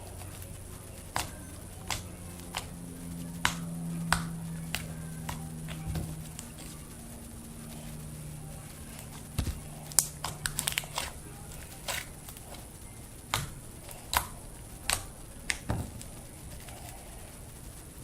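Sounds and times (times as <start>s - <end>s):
slime popping and crackling: 0.0s - 17.8s.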